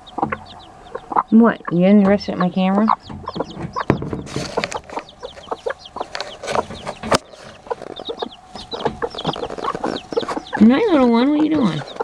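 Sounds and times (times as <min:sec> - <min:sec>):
baby chicks peeping: 0:00.0 - 0:12.0
hens clucking: 0:00.0 - 0:12.0.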